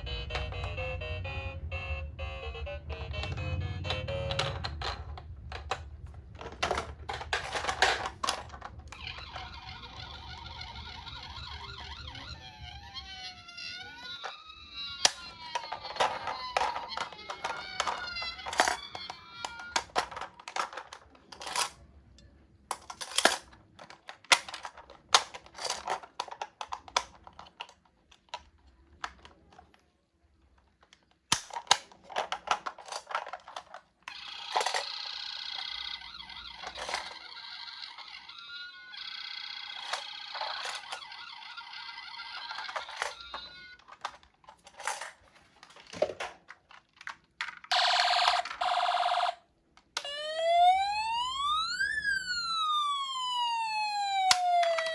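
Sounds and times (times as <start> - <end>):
toy cars clicking and tapping: 2.9 - 29.8, 30.5 - 50.2, 50.8 - 54.9.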